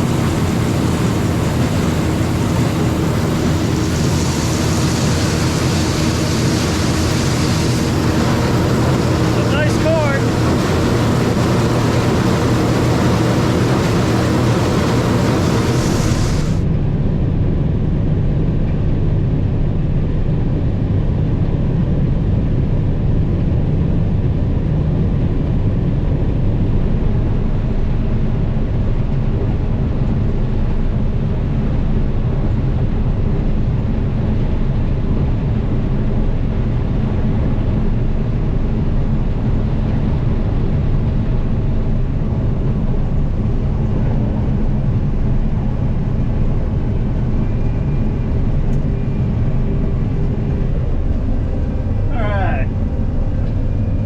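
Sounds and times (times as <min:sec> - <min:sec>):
combine harvester engine drone: 0:00.0 - 0:54.0.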